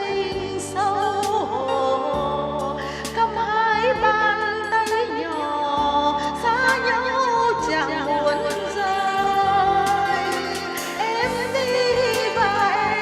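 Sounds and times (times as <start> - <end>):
backing music with bass: 0.0 - 13.0
person singing with vibrato: 0.0 - 13.0.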